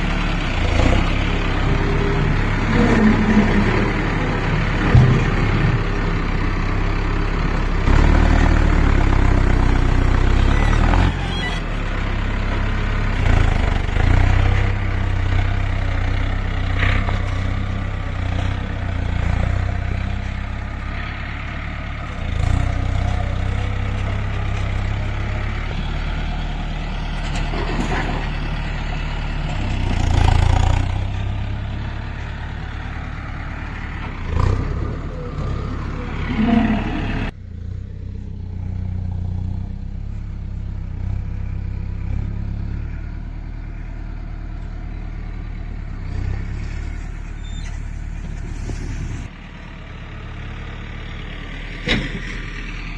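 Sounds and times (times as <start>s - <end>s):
engine clatter: 0.0s - 37.5s, 46.0s - 52.9s
tractor diesel engine revving: 0.0s - 52.9s.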